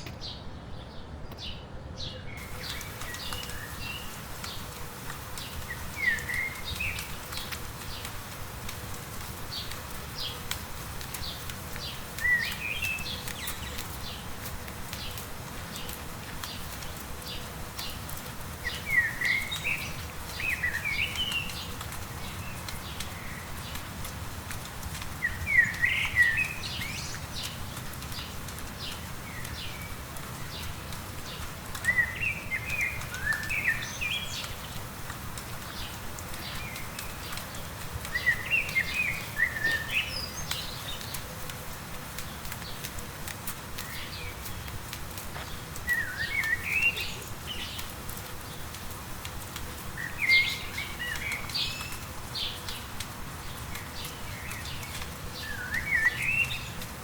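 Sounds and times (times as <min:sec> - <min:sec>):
light rain patter: 0:02.3 - 0:57.0.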